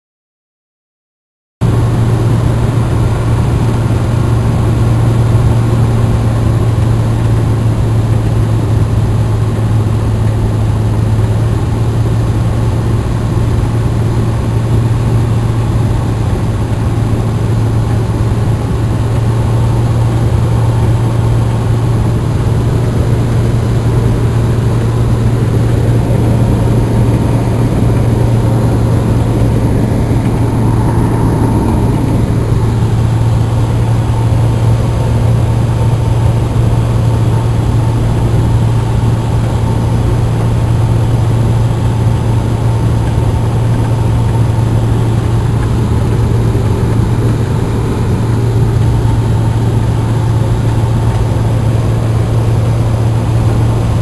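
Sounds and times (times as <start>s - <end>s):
aircraft engine droning in cabin: 1.6s - 54.0s.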